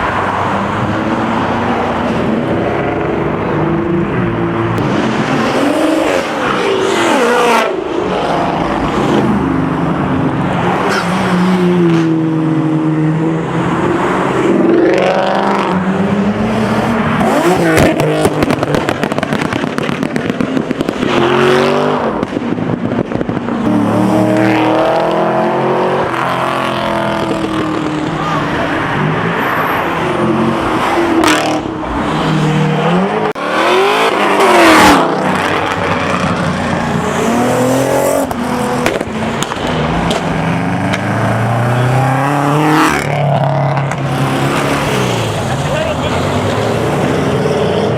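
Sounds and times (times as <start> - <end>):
cars revving and accelerating: 0.0 - 47.9.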